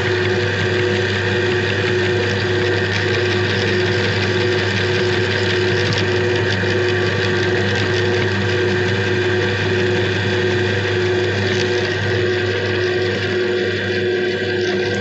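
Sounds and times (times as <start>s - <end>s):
electric meat grinder running: 0.0s - 15.0s.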